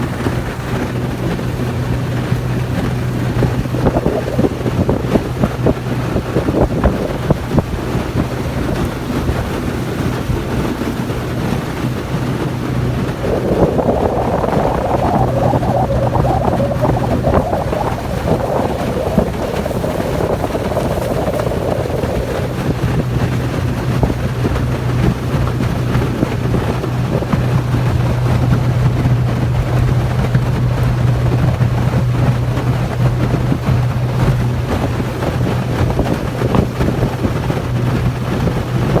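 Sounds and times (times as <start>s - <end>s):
outboard motor running: 0.0s - 39.0s
water rushing past hull: 0.0s - 39.0s
wind buffeting microphone: 0.0s - 39.0s.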